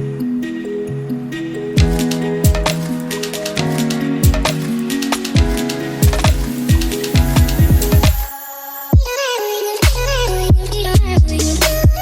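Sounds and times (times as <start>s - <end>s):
beat-driven instrumental music: 0.0s - 10.2s.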